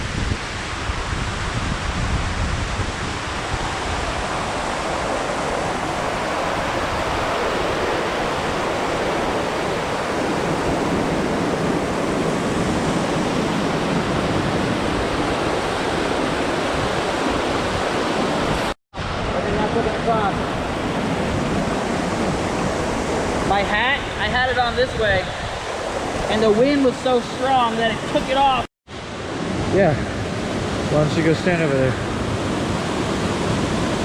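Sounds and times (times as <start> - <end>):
wind buffeting microphone: 0.0 - 34.0
waterfall rushing: 2.8 - 34.0.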